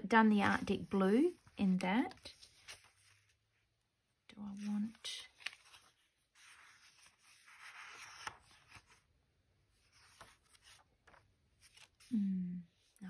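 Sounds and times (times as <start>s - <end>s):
paper pages rustling: 0.3s - 3.5s, 4.5s - 12.1s.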